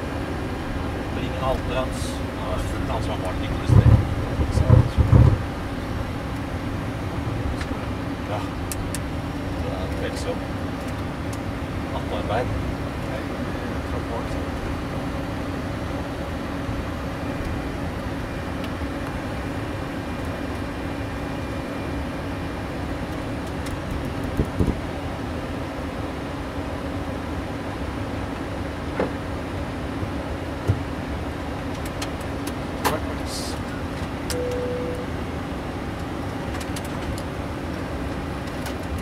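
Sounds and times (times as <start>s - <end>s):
aircraft cockpit engine hum: 0.0s - 39.0s.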